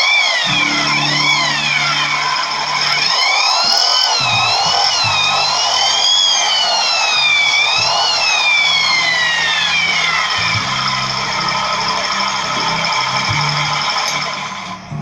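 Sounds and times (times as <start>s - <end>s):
turbo whistle sound effect: 0.0s - 14.7s
scooter engine hum: 0.0s - 15.0s.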